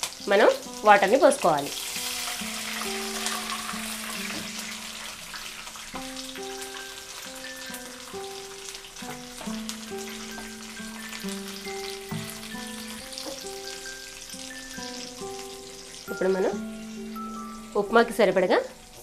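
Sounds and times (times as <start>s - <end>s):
water spitting in hot oil: 0.0s - 17.5s
slow tune of held notes: 0.0s - 19.0s.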